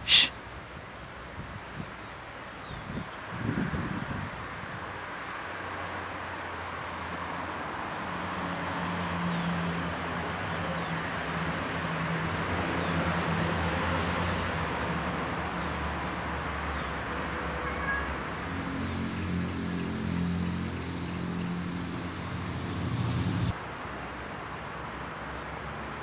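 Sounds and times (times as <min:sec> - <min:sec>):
distant road traffic hum: 0:00.0 - 0:26.0.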